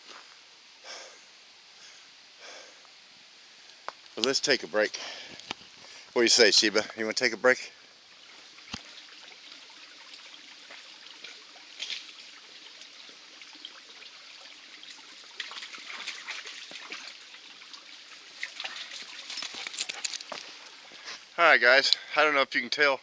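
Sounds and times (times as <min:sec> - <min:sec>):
stream trickling over rocks: 0:04.0 - 0:22.4.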